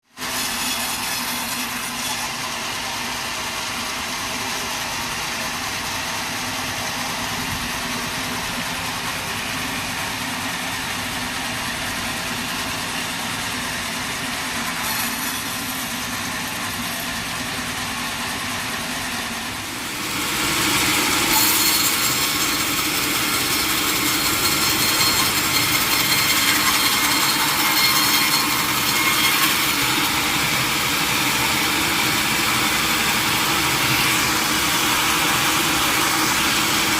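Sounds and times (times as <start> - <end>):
harsh hissing saw: 0.1 - 36.9
sawmill machinery sawing log: 0.1 - 36.9.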